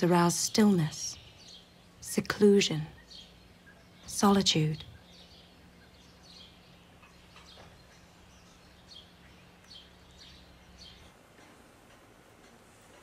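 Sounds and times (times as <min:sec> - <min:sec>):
low steady hum: 0:00.0 - 0:13.0
faint bird chirps: 0:00.4 - 0:11.2.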